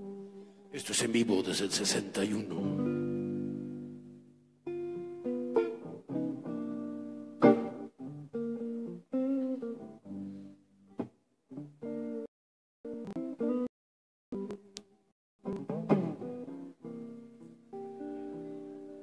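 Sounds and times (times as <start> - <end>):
slow blues guitar: 0.0 - 12.3, 12.9 - 13.7, 14.4 - 19.0.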